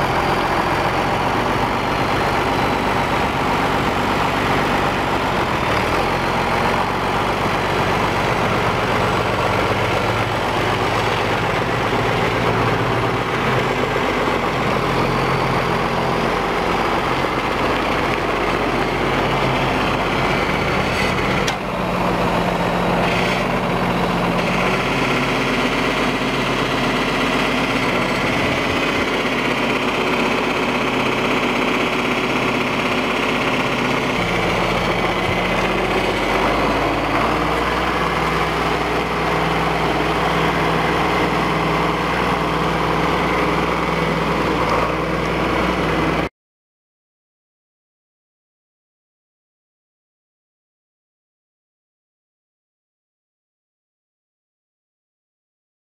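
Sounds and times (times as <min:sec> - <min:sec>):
tractor diesel engine running: 0:00.0 - 0:46.3.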